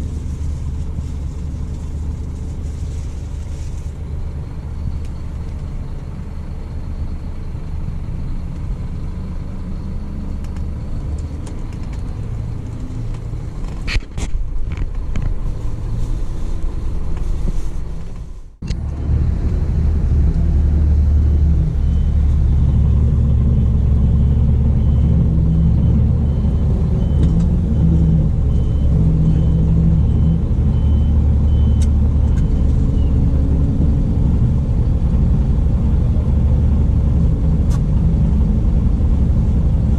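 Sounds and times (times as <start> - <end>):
diesel coach engine rumbling: 0.0 - 39.9.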